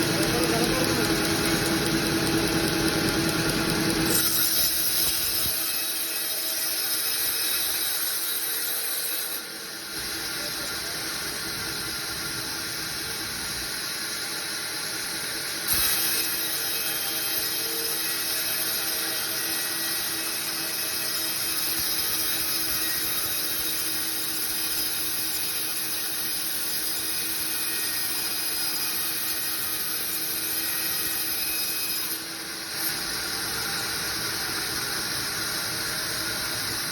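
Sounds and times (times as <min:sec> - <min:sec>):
saw cutting through timber: 0:00.0 - 0:11.9, 0:12.6 - 0:36.9.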